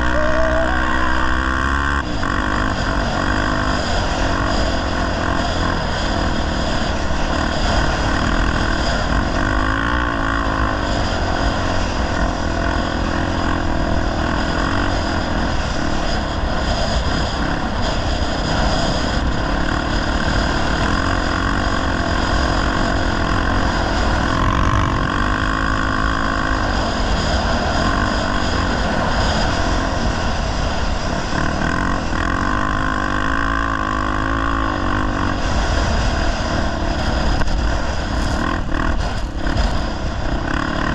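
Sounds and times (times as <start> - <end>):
motorcycle engine revving: 0.0 - 40.9
steady rushing noise: 0.0 - 40.9.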